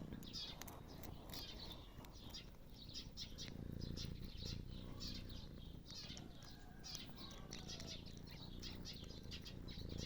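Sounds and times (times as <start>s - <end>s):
birds chirping: 0.0s - 10.0s
faint low rumble: 0.0s - 10.0s.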